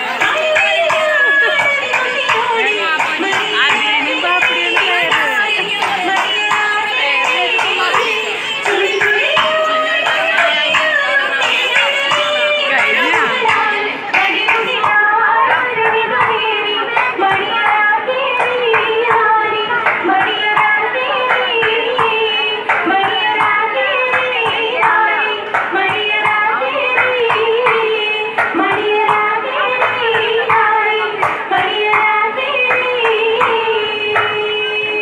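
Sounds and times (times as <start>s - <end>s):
hand-clapping: 0.0s - 32.1s
people singing a song: 0.0s - 35.0s.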